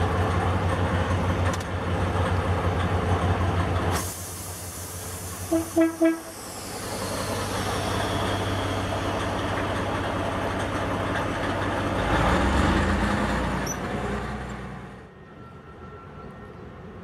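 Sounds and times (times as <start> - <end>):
locomotive engine droning: 0.0 - 17.0.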